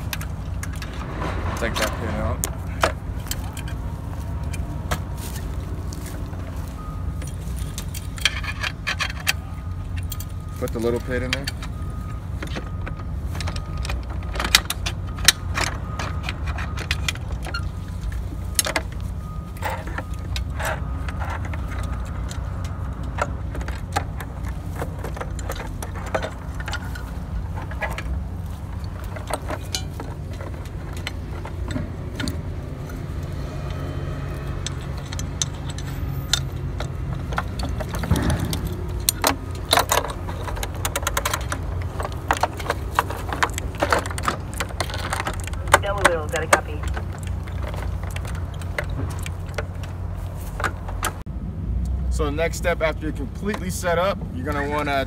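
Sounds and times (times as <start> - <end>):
metal pins and brackets clinking: 0.0 - 51.3, 52.2 - 55.0
steady low rumble: 0.0 - 55.0.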